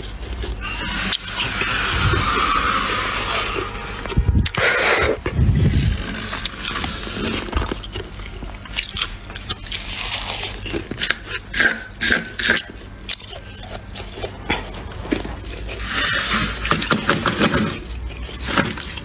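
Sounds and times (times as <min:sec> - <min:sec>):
frost being chewed: 0:00.0 - 0:19.0.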